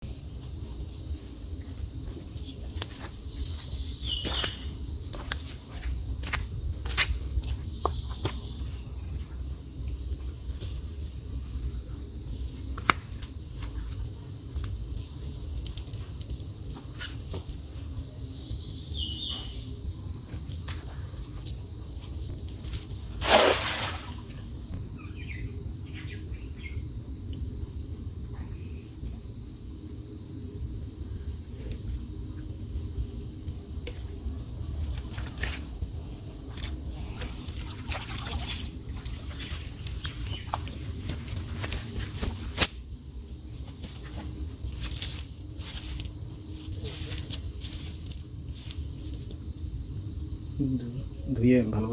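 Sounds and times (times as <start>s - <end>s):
high-pitched insect drone: 0.1s - 12.7s, 13.3s - 51.9s.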